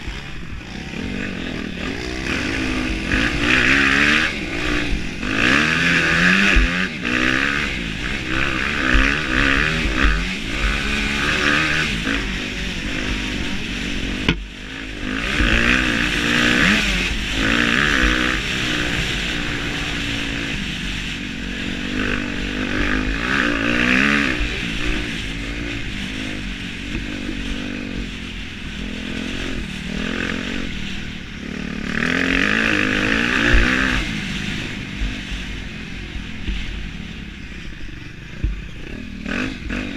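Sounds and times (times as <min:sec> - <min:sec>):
motocross bike engine revving: 0:00.0 - 0:39.9
steady rushing noise: 0:00.0 - 0:39.9.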